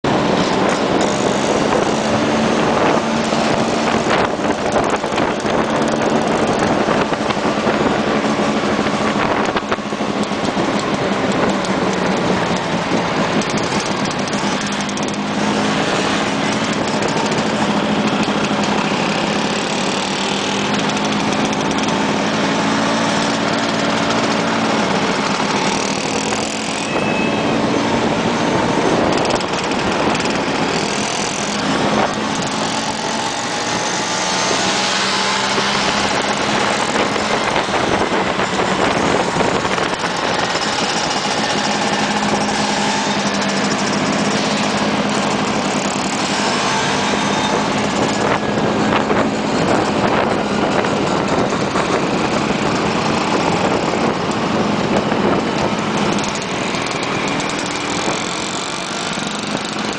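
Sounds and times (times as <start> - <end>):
road and wind noise: 0.0 - 59.9
scooter engines running: 0.0 - 59.9.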